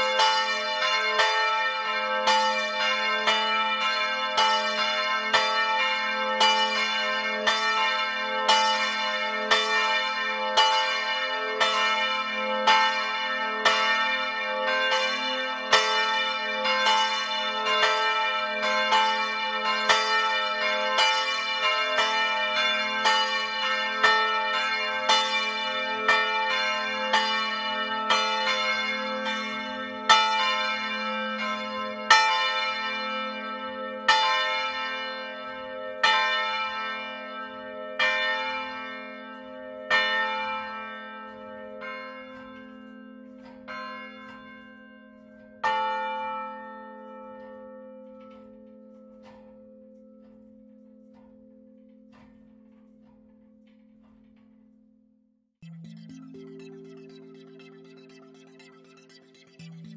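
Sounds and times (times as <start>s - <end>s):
church bells ringing: 0.0s - 55.0s, 55.6s - 59.9s
low hum of ringing bells: 0.0s - 55.0s, 55.6s - 59.9s.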